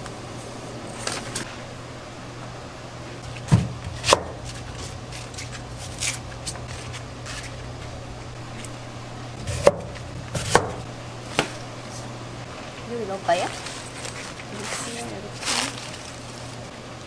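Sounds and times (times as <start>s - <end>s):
kitchen ventilation hum: 0.0s - 17.0s.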